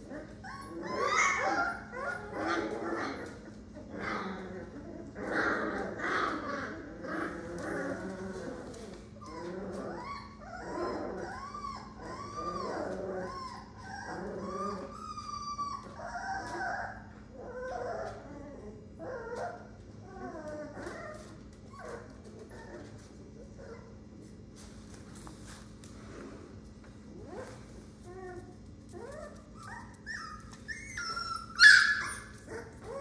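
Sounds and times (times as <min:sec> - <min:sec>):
puppies whining and yipping: 0:00.0 - 0:24.1, 0:27.1 - 0:33.0.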